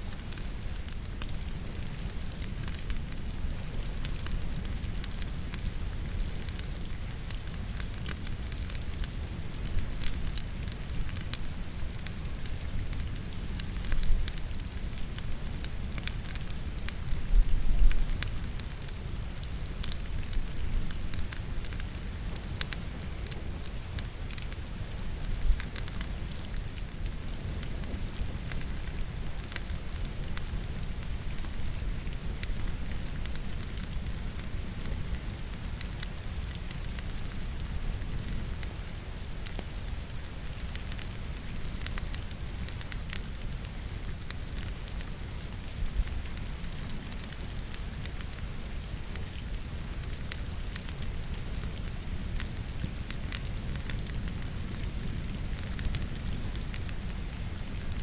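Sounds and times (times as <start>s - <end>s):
logs crackling and popping in fire: 0.0s - 58.0s
low fire rumble: 0.0s - 58.0s
steady rain: 0.0s - 58.0s.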